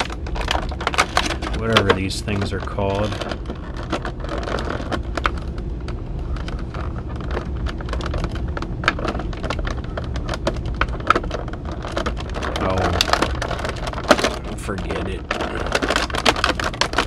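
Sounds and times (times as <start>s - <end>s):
low steady hum: 0.0s - 17.0s
plastic packaging crinkling: 0.0s - 17.0s.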